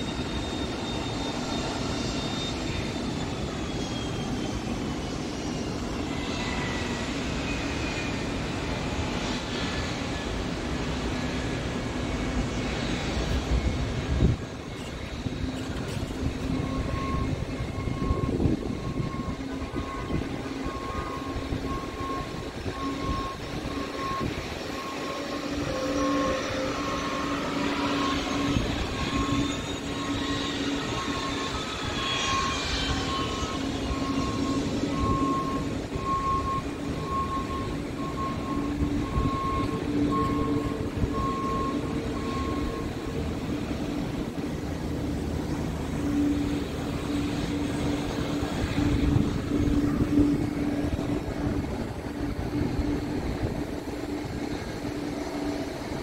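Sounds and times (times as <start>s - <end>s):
high turbine whine: 0.0s - 56.0s
jet engine rumble: 0.0s - 56.0s.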